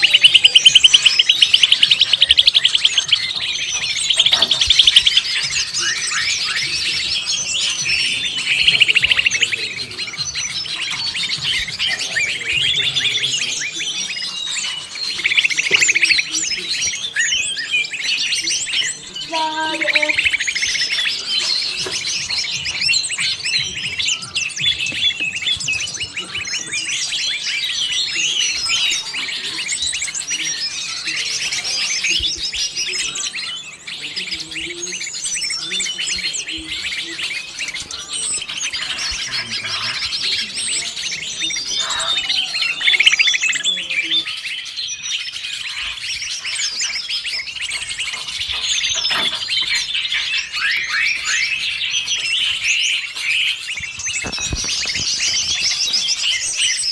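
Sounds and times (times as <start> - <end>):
chorus of small birds chirping: 0.0 - 56.9.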